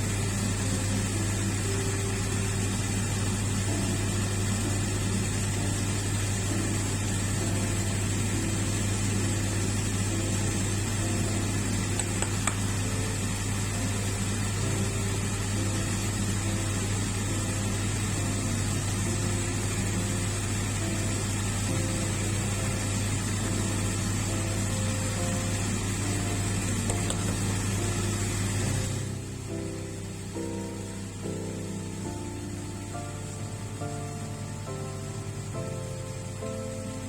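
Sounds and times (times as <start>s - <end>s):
low mechanical motor hum: 0.0s - 37.0s.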